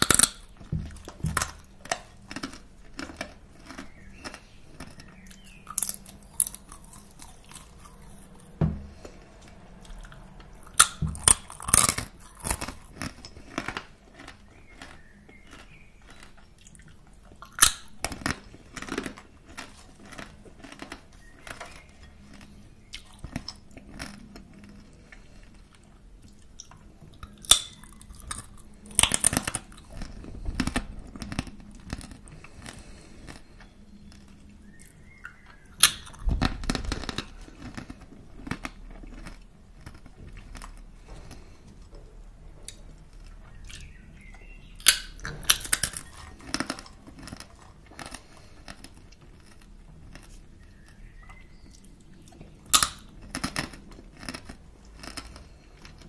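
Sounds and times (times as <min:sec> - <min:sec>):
crunching crackers: 0:00.0 - 0:56.0.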